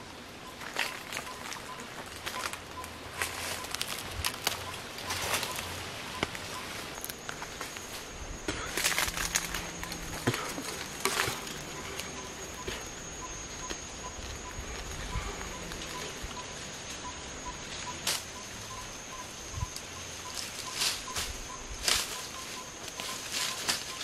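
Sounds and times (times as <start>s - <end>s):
dry leaves and twigs crackling: 0.0s - 24.0s.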